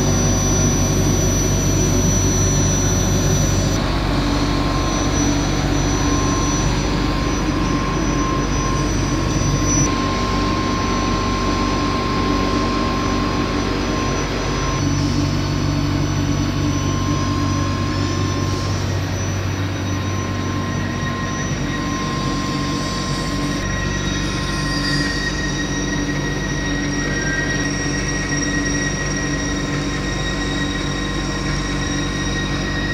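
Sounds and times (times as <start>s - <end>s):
machine hum with high whine: 0.0s - 32.9s.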